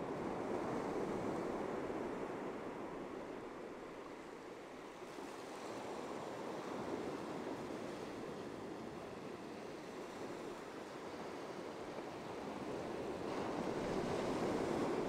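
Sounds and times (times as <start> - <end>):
ocean surf breaking on beach: 0.1 - 15.0.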